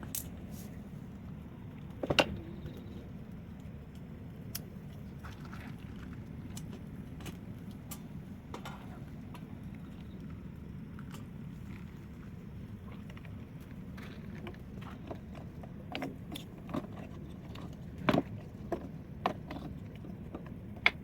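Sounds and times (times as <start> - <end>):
low fire rumble: 0.0 - 21.0.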